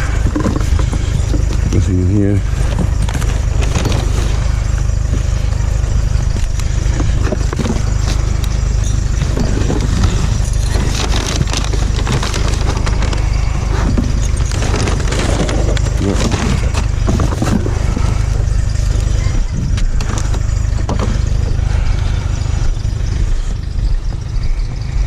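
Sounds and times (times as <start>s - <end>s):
items clunking and knocking: 0.0s - 21.6s
steady low rumble: 0.0s - 25.0s.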